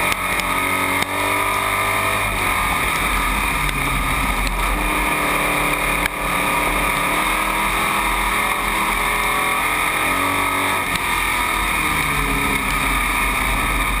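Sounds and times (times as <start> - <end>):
race car engine at speed: 0.0 - 14.0
road and wind noise: 0.0 - 14.0.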